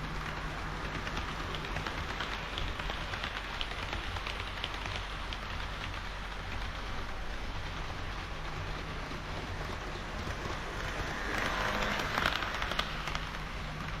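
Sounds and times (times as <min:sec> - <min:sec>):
model train wheels rattling on rails: 0:00.0 - 0:14.0.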